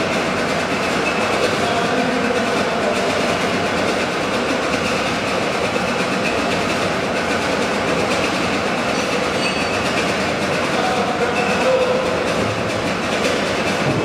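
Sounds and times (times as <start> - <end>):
steam engine running: 0.0 - 14.0.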